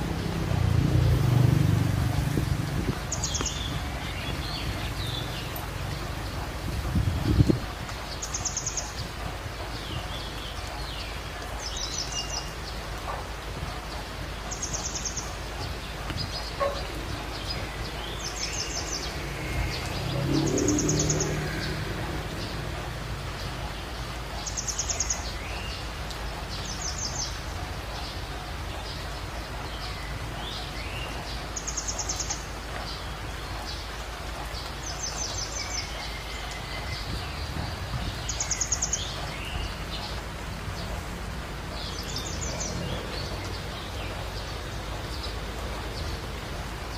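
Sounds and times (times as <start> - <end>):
outdoor background noise: 0.0 - 46.9.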